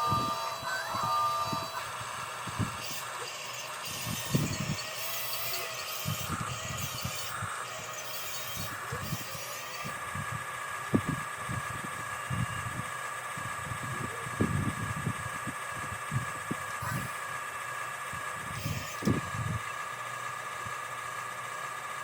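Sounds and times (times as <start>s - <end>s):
small electric motors whirring: 0.0s - 22.0s.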